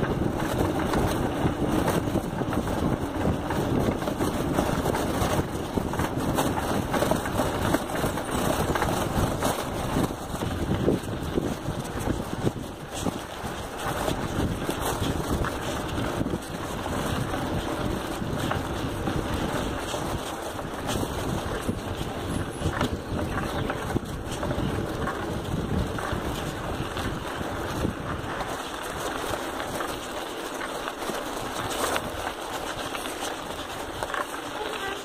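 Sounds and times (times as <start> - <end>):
bicycle knocks and rattles: 0.0 - 35.0
wind buffeting microphone: 0.0 - 35.0.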